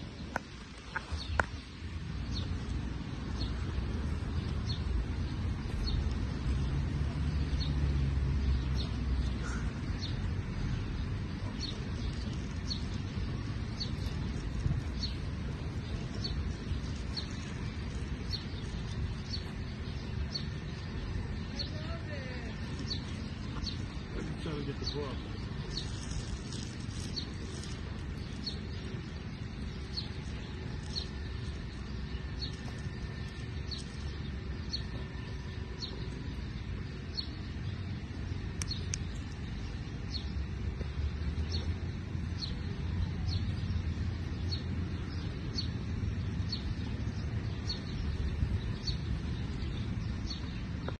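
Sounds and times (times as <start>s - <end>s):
bird chirping: 0.0s - 51.0s
wind rumble on microphone: 0.0s - 51.0s.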